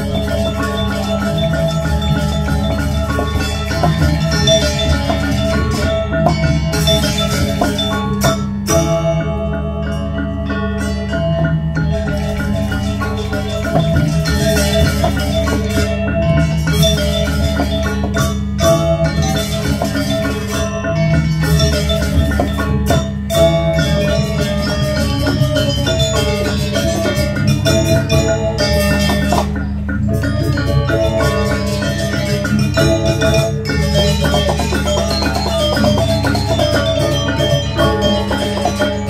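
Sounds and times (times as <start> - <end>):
drum: 0.0 - 39.0
metallophones ringing: 0.0 - 39.0.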